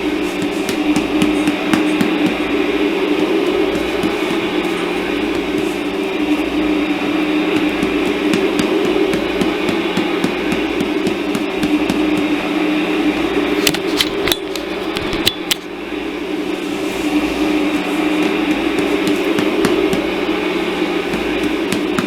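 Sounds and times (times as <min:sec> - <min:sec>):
mechanical drone with low hum: 0:00.0 - 0:22.0.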